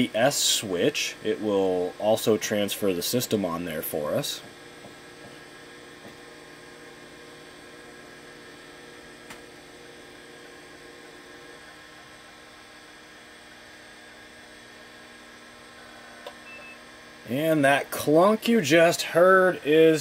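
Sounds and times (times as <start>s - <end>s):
hard drive humming: 0.0s - 20.0s.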